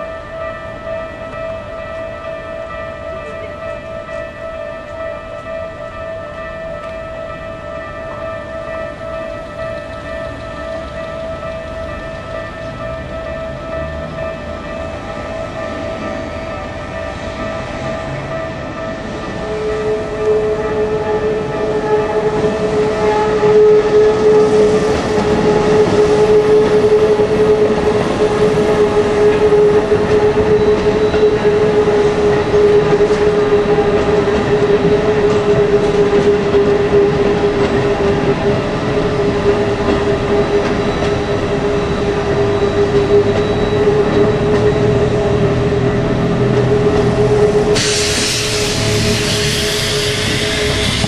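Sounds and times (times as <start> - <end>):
crossing warning bell: 0.0 - 51.0
train wheels rumbling on rails: 0.0 - 51.0.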